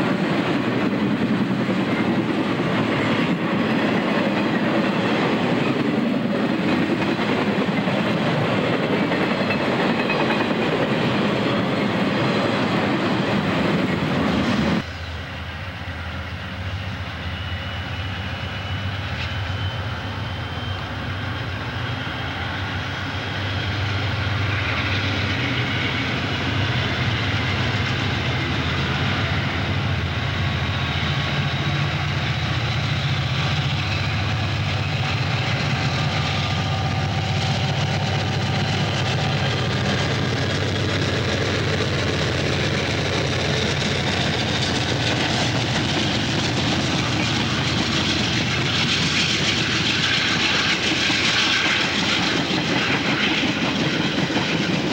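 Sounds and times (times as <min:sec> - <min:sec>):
diesel locomotive engine drone: 0:00.0 - 0:54.9.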